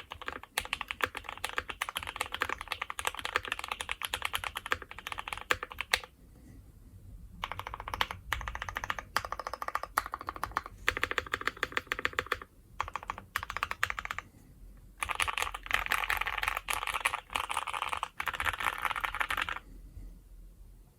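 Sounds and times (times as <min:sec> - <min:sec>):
clacky keyboard typing: 0:00.0 - 0:06.1, 0:07.4 - 0:14.2, 0:15.0 - 0:19.6.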